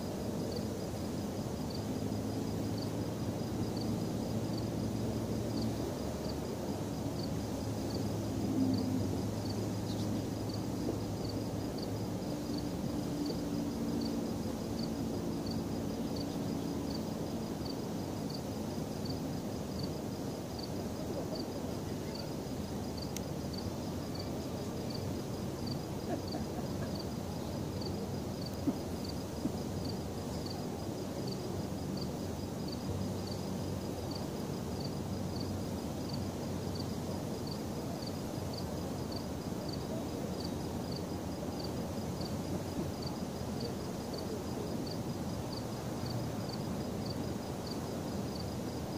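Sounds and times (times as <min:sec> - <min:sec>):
cricket chirping: 0:00.0 - 0:48.9
low rumble of background noise: 0:00.0 - 0:48.9.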